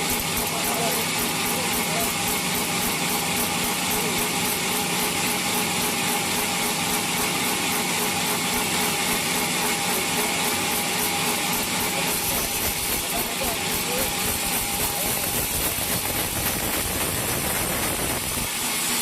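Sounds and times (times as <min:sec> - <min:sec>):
sawmill saw running: 0:00.0 - 0:19.0.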